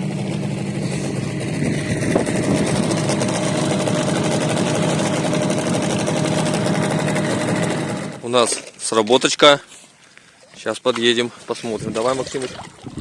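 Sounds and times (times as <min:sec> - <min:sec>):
outboard motor running: 0:00.0 - 0:09.1, 0:11.4 - 0:13.0.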